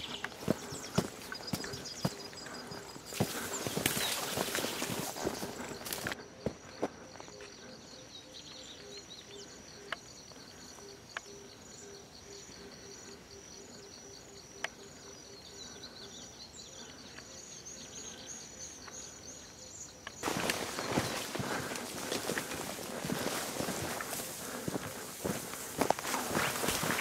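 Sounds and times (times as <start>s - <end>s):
insects chirping: 0.0s - 27.0s.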